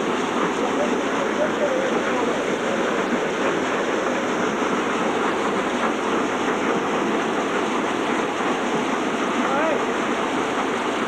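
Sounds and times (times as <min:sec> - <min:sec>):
thresher running: 0:00.0 - 0:11.0.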